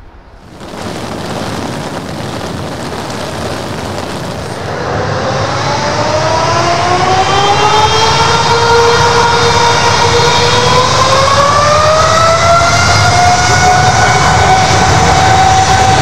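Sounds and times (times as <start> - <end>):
jet engine rising whine: 0.0 - 16.0
jet engines roaring: 0.0 - 16.0.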